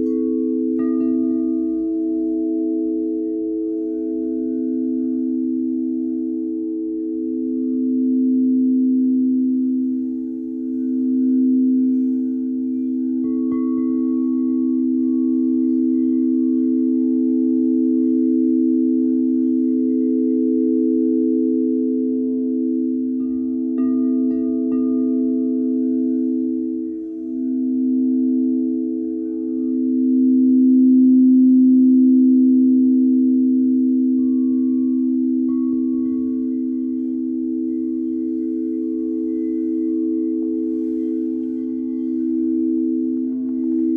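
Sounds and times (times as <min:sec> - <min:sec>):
high-pitched bowl struck: 0:00.0 - 0:43.9
singing bowls low drone: 0:00.0 - 0:43.9.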